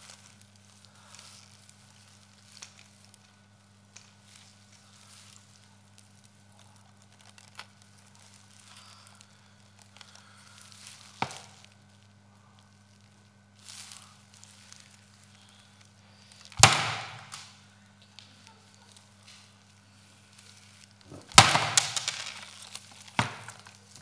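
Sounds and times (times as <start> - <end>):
low steady hum: 0.0 - 24.0
rustling of tape: 0.0 - 24.0.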